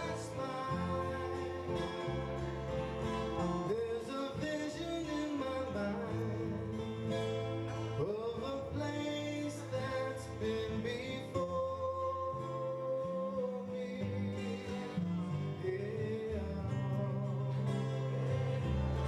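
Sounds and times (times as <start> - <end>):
man singing: 0.0 - 19.0
strummed acoustic guitar: 0.0 - 19.0.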